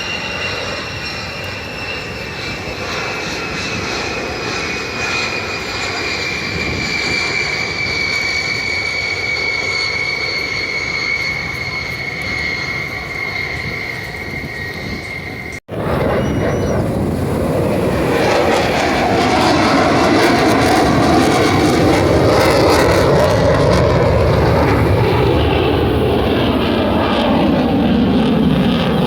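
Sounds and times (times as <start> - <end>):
airplane engine roar passing overhead: 0.0 - 29.0.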